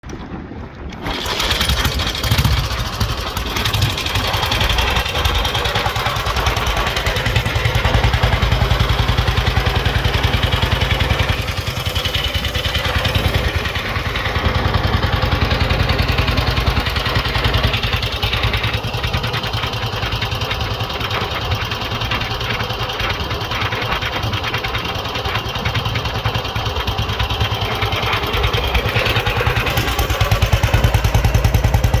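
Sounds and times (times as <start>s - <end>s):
motorcycle engine running: 1.0s - 32.0s.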